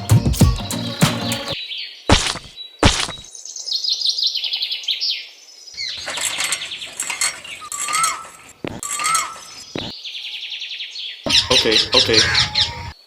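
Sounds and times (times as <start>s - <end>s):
small birds trilling: 0.0s - 13.0s.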